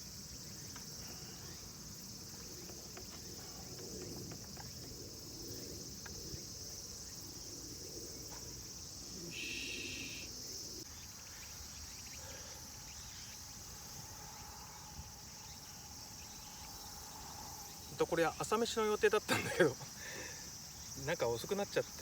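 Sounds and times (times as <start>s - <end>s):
insects chirring: 0.0s - 22.0s
louder insect chirp: 0.0s - 22.0s.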